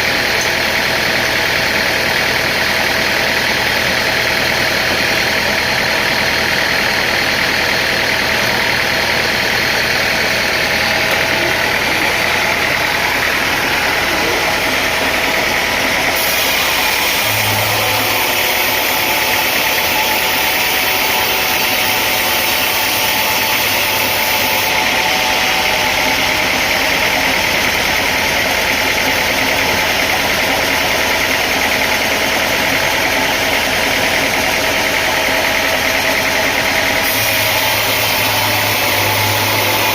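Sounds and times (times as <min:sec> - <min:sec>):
machine running: 0:00.0 - 0:39.9.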